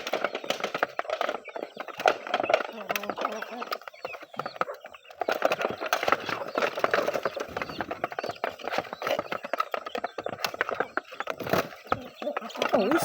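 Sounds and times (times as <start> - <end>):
chickens pecking tapping: 0.0 - 13.0.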